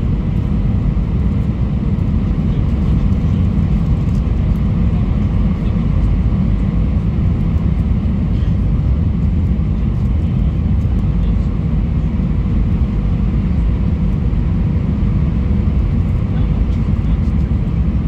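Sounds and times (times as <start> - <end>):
jet engines and airflow rumble: 0.0 - 18.0.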